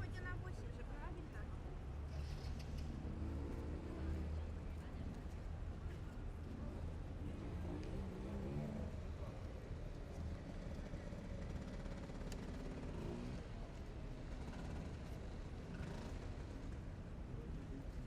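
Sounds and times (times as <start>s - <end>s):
vehicle engines running: 1.8s - 18.0s.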